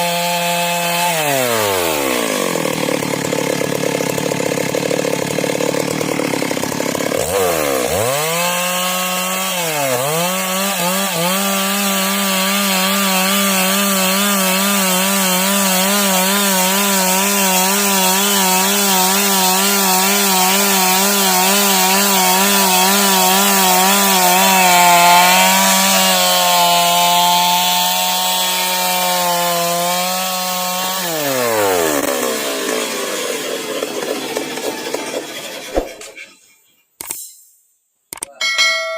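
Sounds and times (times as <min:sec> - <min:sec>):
chainsaw cutting log: 0:00.0 - 0:36.5.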